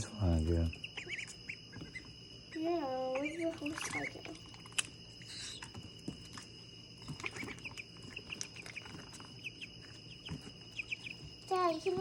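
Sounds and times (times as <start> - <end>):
steady high-pitched whine: 0.0 - 12.0.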